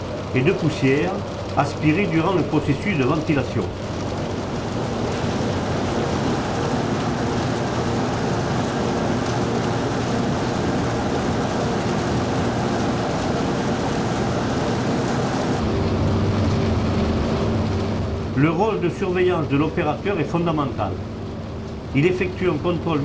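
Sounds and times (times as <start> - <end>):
fans blowing air: 0.0 - 23.0
low motor hum: 0.0 - 23.0.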